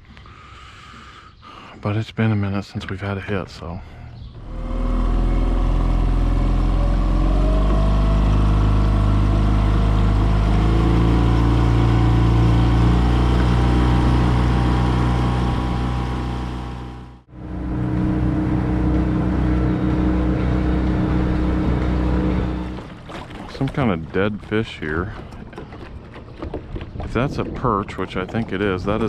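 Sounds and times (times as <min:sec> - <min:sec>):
outboard motor running: 0:04.0 - 0:29.0.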